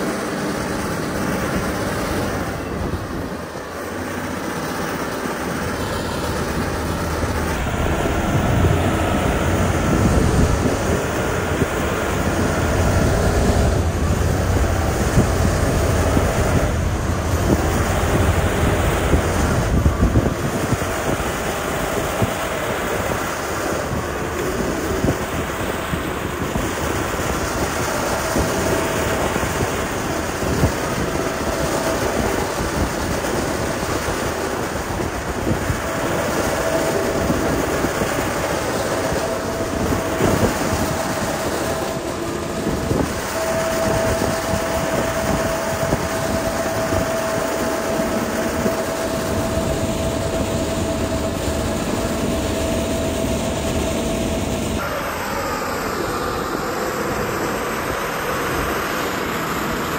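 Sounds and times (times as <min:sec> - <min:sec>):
diesel engine running: 0:00.0 - 0:59.9
faint steady whine: 0:00.0 - 0:59.9.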